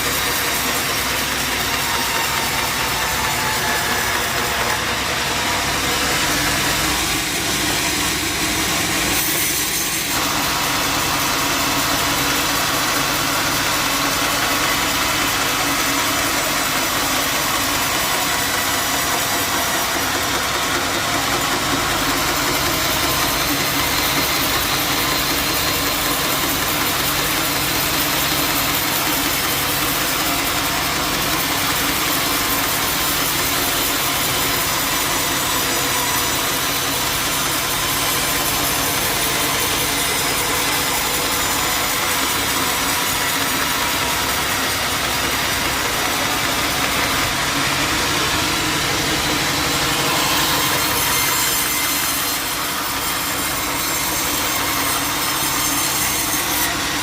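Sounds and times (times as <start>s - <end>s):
band saw hum and whine: 0.0s - 57.0s.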